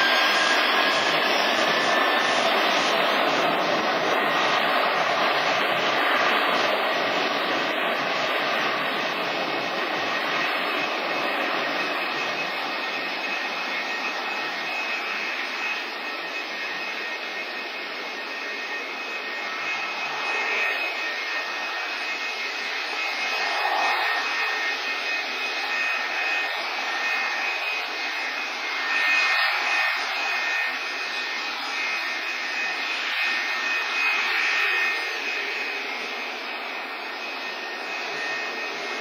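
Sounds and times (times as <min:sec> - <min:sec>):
jet engine roar: 0:00.0 - 0:39.0.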